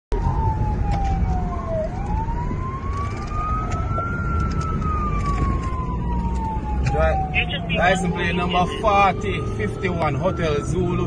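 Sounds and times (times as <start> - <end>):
car engine and road rumble: 0.1 - 11.0
police siren wailing: 0.2 - 11.0.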